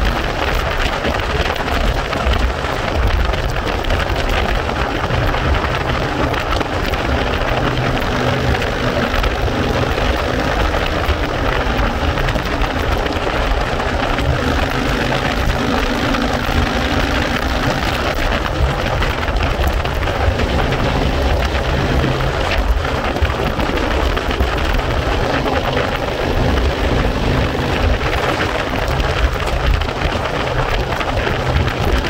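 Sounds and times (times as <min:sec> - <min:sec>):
motorcycle engine hum: 0:00.0 - 0:32.0
wind buffeting microphone: 0:00.0 - 0:32.0.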